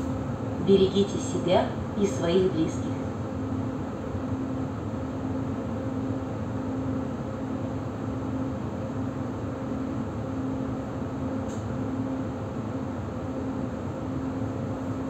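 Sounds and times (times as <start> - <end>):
pulsing electric hum: 0.0 - 15.0.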